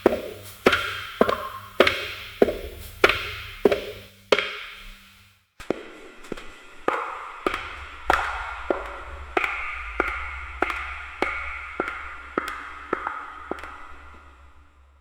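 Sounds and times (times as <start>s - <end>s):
echoing footsteps on hard floor: 0.0s - 14.9s.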